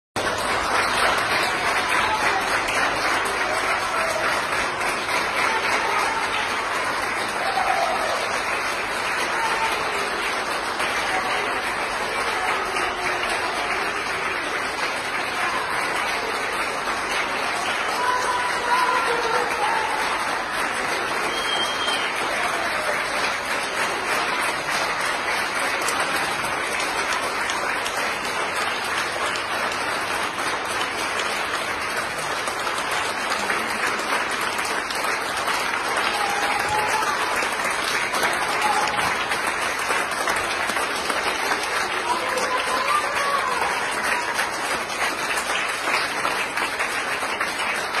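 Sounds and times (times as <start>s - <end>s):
crowd applauding: 0.2s - 48.0s.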